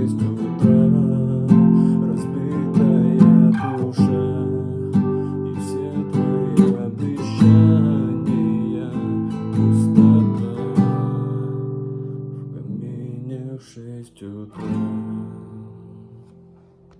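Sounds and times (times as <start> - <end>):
acoustic guitar strumming: 0.0 - 13.5, 14.6 - 16.9.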